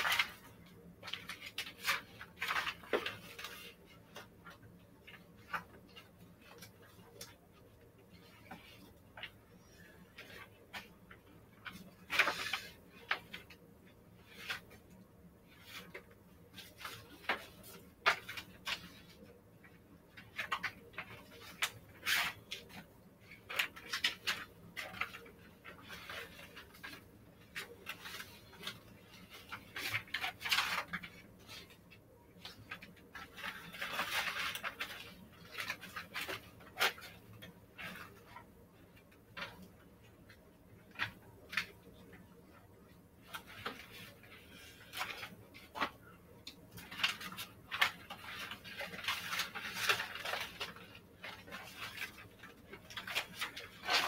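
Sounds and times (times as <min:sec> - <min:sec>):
paper rustling: 0:00.0 - 0:54.0.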